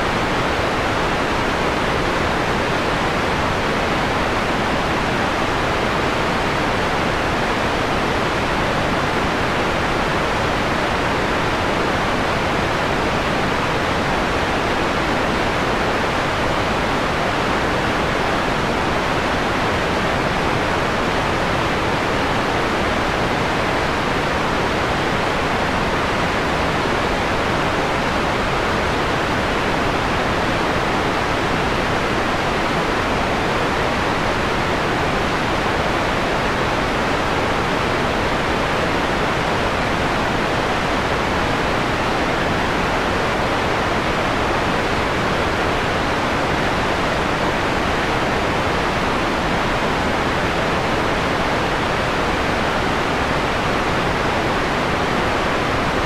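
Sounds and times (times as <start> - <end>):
filtered white noise: 0.0 - 56.0.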